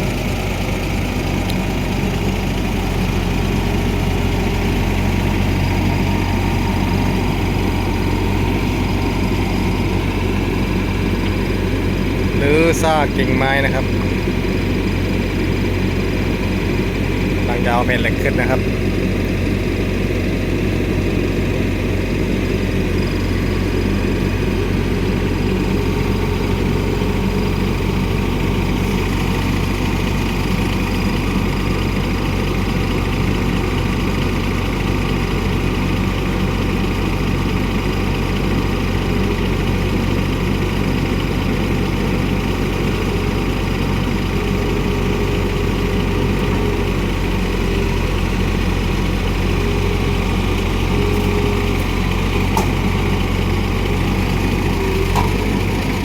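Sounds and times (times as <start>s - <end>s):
diesel excavator engine running: 0.0s - 56.0s.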